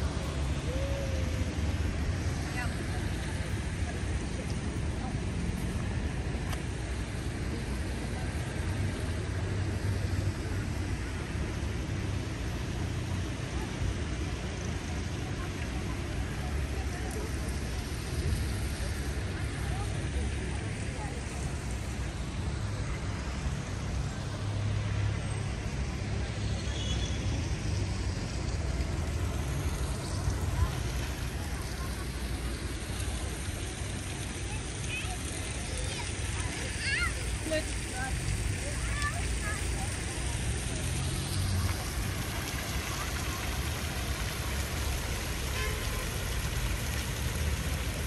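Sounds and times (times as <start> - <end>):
cars going by: 0.0 - 48.0
low street rumble: 0.0 - 48.0.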